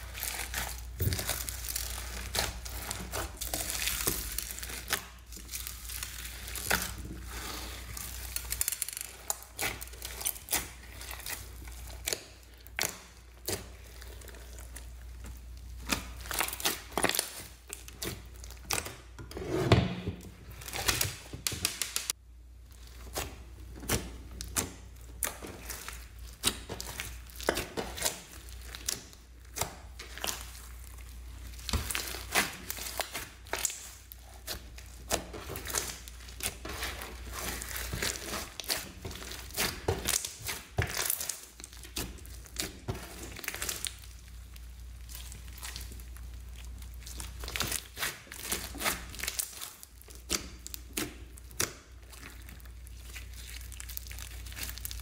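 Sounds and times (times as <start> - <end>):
hands squishing slime: 0.0 - 19.2, 20.3 - 55.0.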